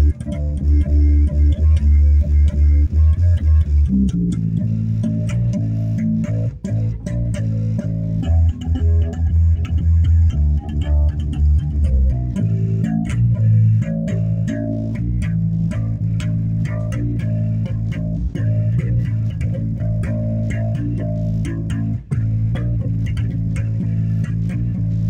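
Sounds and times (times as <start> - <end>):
solo bass guitar: 0.0 - 25.0.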